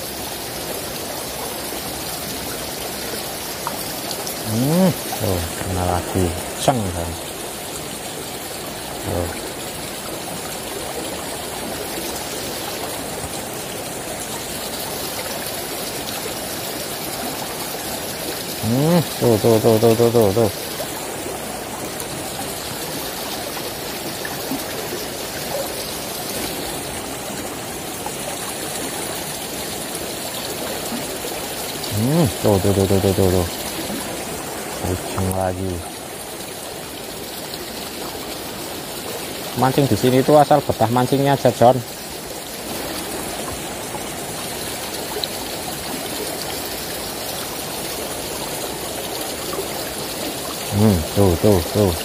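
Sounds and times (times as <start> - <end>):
river running over stones: 0.0 - 52.0
stream water rushing over rocks: 0.0 - 52.0.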